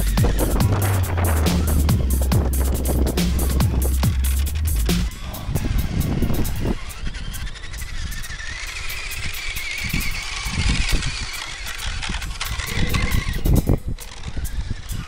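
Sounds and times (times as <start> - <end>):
gusty rumbling: 0.0 - 15.0
toy truck motor whining: 0.0 - 15.0.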